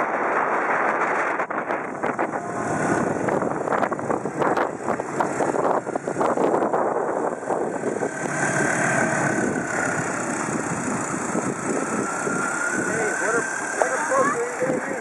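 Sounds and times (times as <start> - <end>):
faint motor whine: 1.7 - 15.0.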